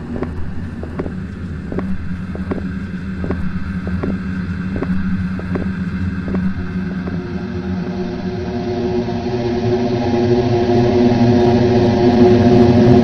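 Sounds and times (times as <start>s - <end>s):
steady low drone: 0.0s - 13.0s.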